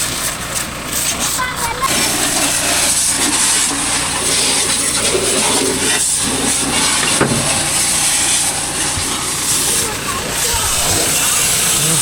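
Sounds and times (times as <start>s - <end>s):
pressure washer spraying: 0.0s - 12.0s.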